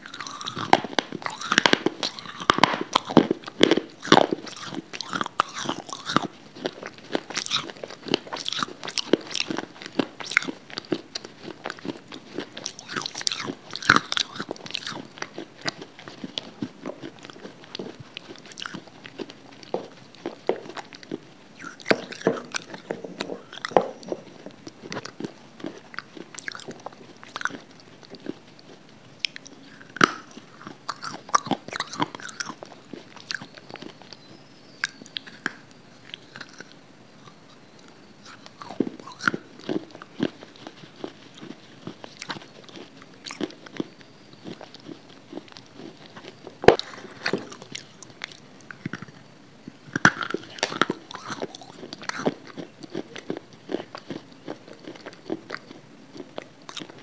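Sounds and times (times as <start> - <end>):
crunching and chewing: 0.0 - 57.0.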